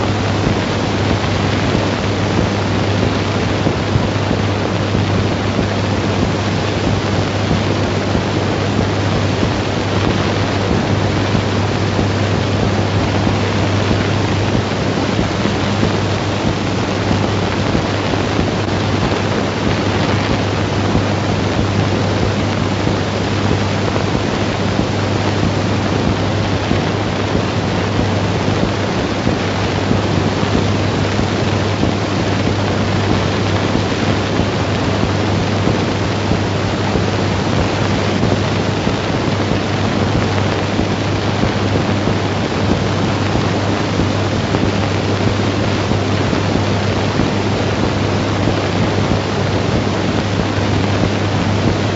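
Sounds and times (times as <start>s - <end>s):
film soundtrack hiss: 0.0s - 51.9s
low steady hum: 0.0s - 51.9s.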